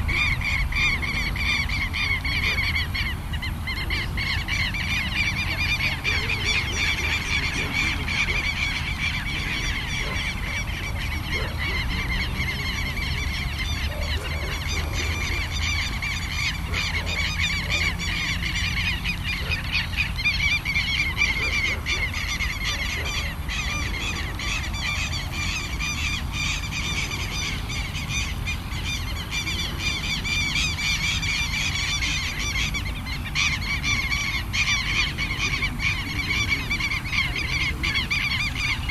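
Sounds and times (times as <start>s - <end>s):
birds chattering chorus: 0.0s - 38.9s
wind rumble on microphone: 0.0s - 38.9s.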